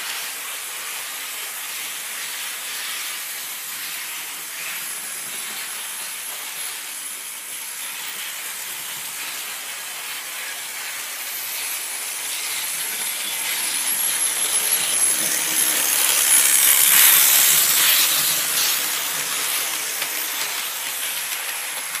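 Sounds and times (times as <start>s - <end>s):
model steam train hissing: 0.0s - 22.0s.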